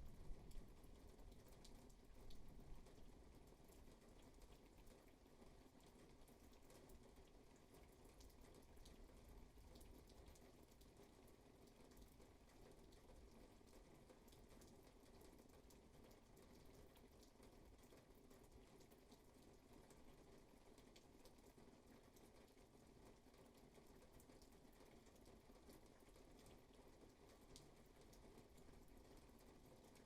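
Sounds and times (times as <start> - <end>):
raindrops ticking: 0.0 - 30.0
steady rainfall: 0.0 - 30.0.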